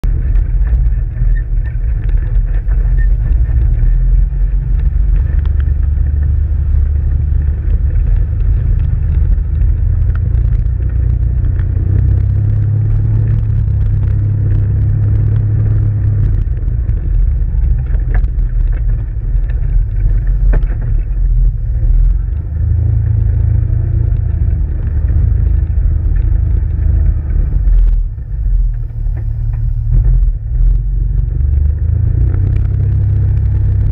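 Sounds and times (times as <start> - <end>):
off-road vehicle engine rumbling: 0.0 - 33.9
small clicks and knocks: 0.1 - 33.9.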